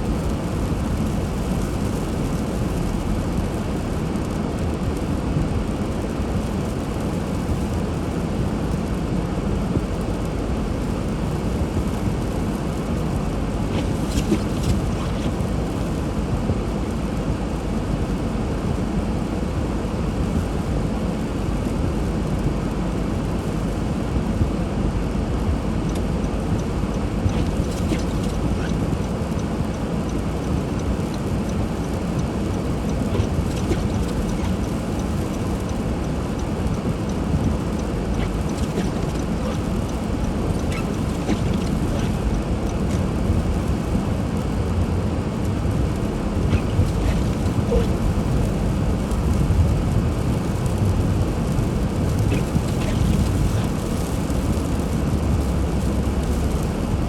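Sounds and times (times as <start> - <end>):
car driving on snow: 0.0 - 57.0.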